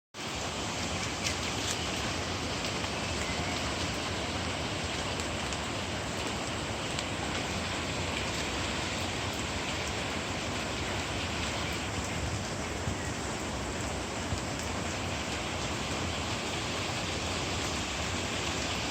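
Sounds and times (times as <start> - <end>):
steady rain: 0.2 - 18.9.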